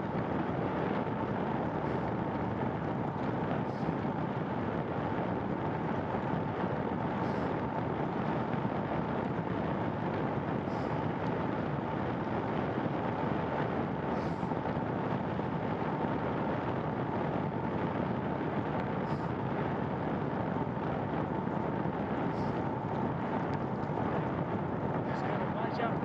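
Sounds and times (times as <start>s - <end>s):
bicycle road noise: 0.0s - 26.0s
rushing wind: 0.0s - 26.0s.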